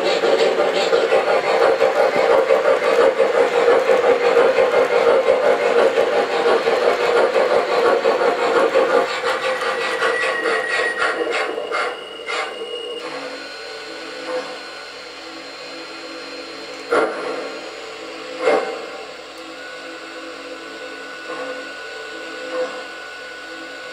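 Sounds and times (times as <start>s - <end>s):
model steam locomotive chuffing: 0.0s - 23.9s.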